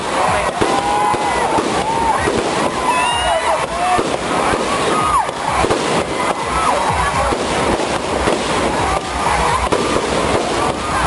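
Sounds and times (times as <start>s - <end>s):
descending fireworks whistles: 0.0s - 11.0s
fireworks bangs and crackles: 0.0s - 11.0s.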